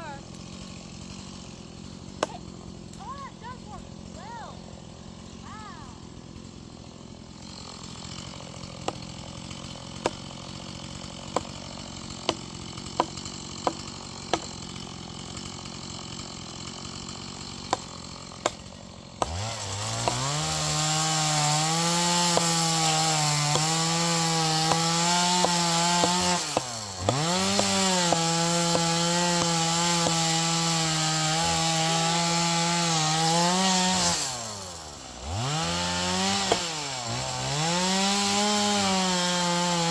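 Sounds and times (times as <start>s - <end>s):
chainsaw idling and revving: 0.0s - 39.9s
chainsaw sawing into wood: 0.0s - 39.9s.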